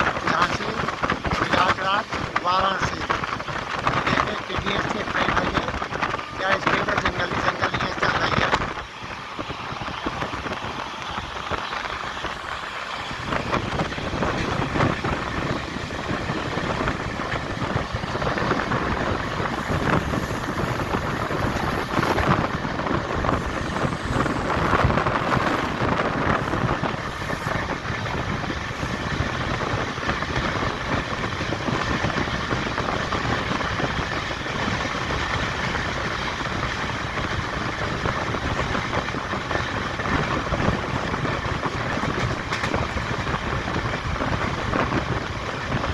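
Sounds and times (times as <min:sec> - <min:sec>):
train wheels on rails: 0:00.0 - 0:45.9.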